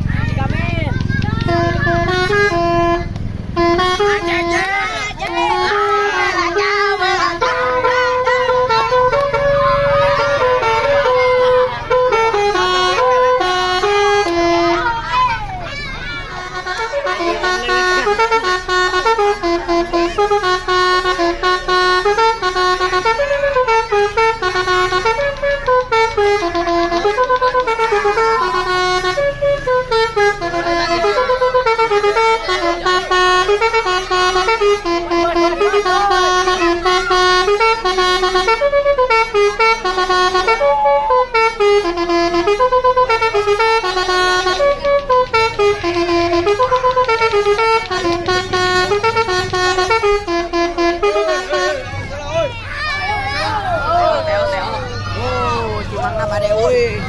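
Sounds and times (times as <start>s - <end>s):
multi-tone air horn melody: 0.5s - 57.0s.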